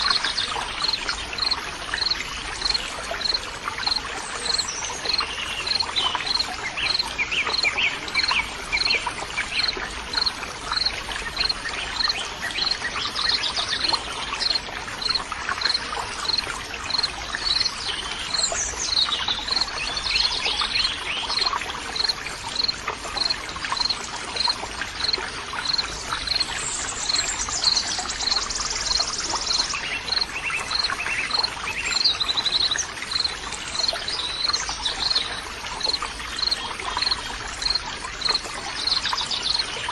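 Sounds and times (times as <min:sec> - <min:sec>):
birds singing: 0:00.0 - 0:39.9
water rushing: 0:00.0 - 0:39.9.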